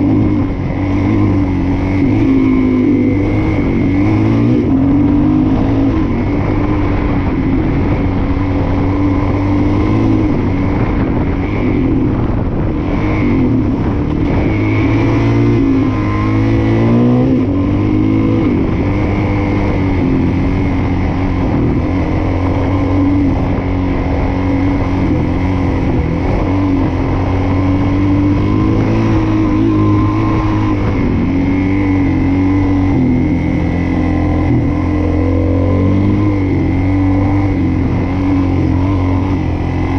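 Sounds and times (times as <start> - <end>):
motorcycle engine riding off-road: 0.0 - 39.9.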